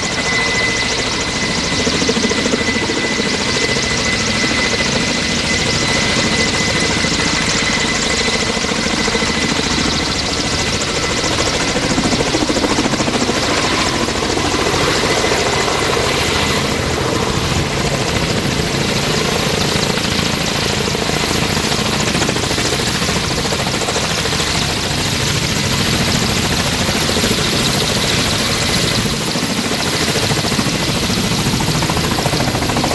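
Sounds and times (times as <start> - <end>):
helicopter rotor beat: 0.0 - 32.9.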